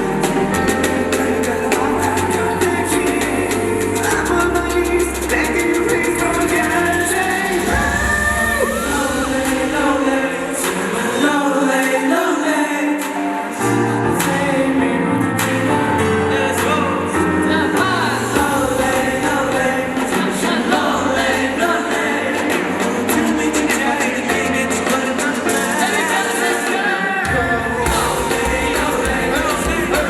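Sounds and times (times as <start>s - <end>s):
pop song with singing: 0.0s - 30.0s.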